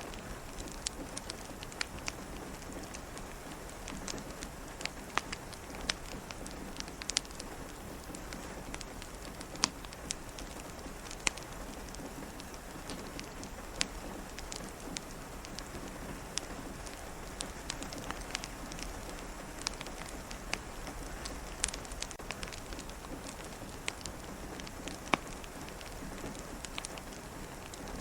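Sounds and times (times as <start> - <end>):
rain on a window: 0.0 - 28.0
wood fire popping and crackling: 0.0 - 28.0.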